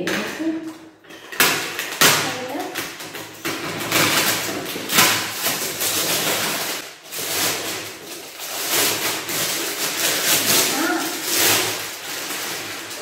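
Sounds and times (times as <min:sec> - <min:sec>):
plastic wrapping crinkling: 0:01.2 - 0:13.0.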